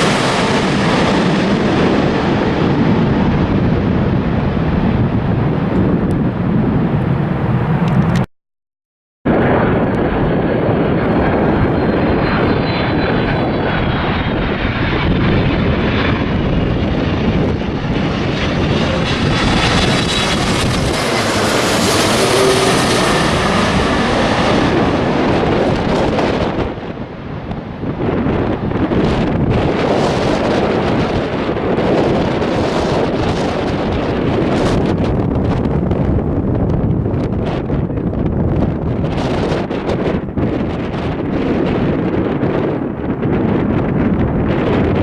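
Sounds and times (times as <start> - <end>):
jet airliner passing: 0.0 - 8.2, 9.3 - 45.0.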